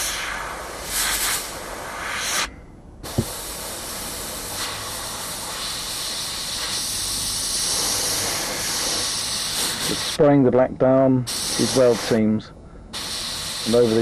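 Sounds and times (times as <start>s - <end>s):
airbrush spraying air hiss: 0.0s - 10.2s, 11.3s - 14.0s.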